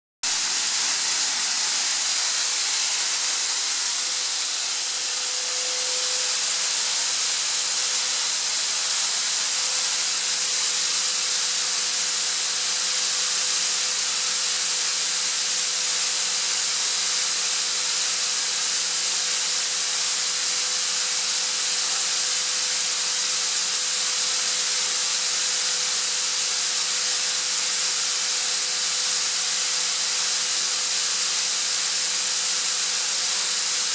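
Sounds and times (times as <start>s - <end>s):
air compressor hissing: 0.2s - 33.9s.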